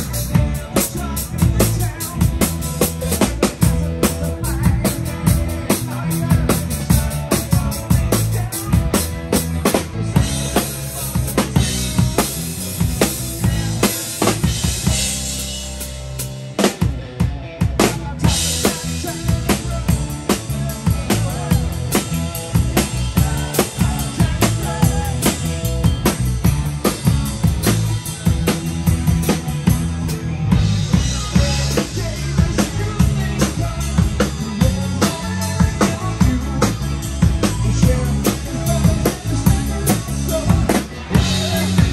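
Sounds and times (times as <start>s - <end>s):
drum kit beat: 0.0s - 41.9s
electric guitar: 0.0s - 41.9s
live rock band playing: 0.0s - 41.9s.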